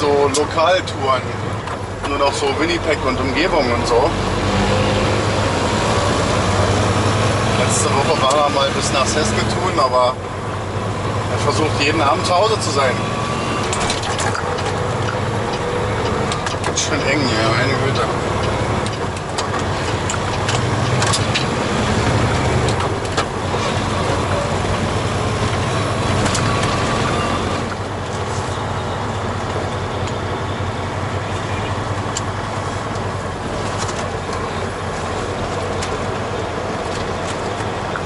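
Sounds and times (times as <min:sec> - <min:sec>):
road noise: 0:00.0 - 0:38.0
truck diesel engine running: 0:00.0 - 0:38.0.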